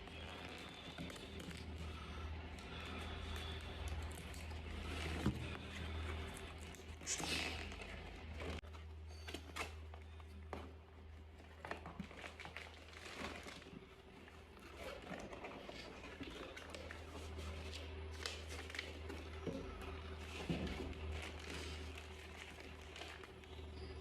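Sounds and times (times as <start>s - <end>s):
packaging clicks and rustling: 0.0s - 24.0s
steady low hum: 0.0s - 24.0s.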